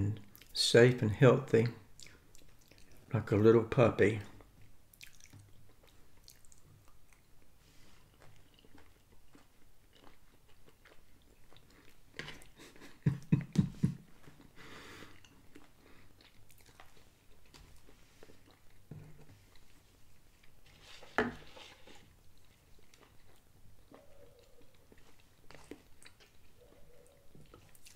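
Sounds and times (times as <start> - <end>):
man chewing food: 0.2 - 0.6, 1.8 - 3.1, 4.4 - 27.9.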